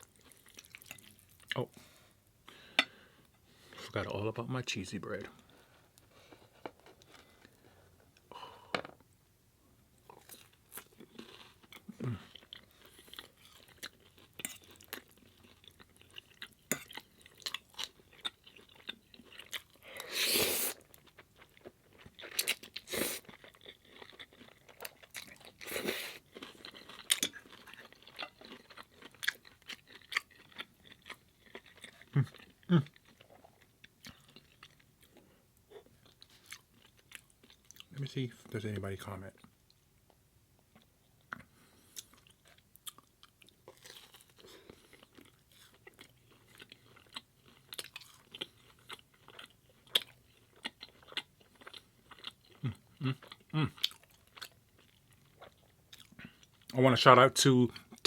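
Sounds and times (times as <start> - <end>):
person chewing bread: 0.0 - 4.0, 5.3 - 8.7, 10.0 - 37.9, 39.4 - 56.8, 57.7 - 58.0.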